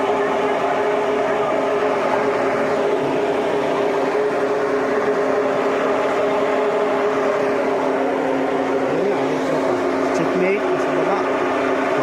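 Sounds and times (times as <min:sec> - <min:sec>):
steady engine drone: 0:00.0 - 0:12.0.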